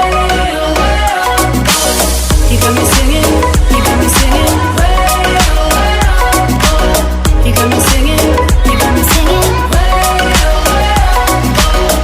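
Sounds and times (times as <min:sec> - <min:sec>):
song with drum beat and bass: 0:00.0 - 0:12.0.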